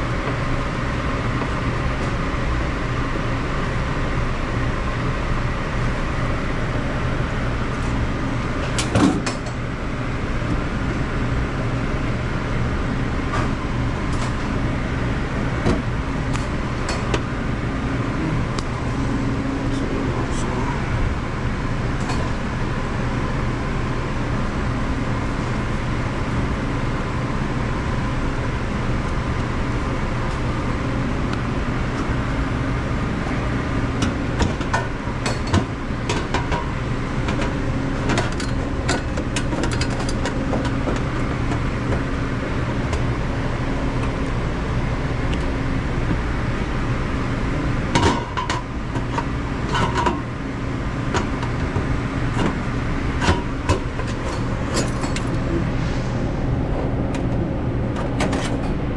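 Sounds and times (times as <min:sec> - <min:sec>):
kitchen machinery hum: 0:00.0 - 0:58.9.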